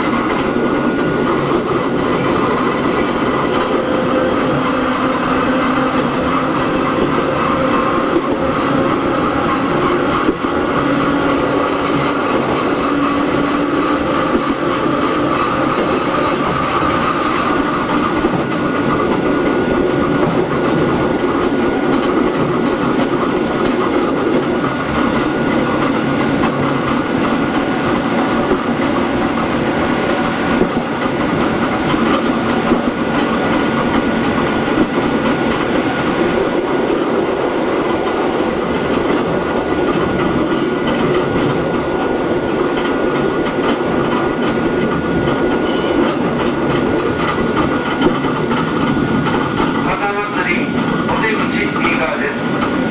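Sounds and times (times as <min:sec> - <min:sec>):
wheels clicking over rail joints: 0:00.0 - 0:29.9, 0:30.5 - 0:52.9
train wheels and motors rumbling: 0:00.0 - 0:52.9.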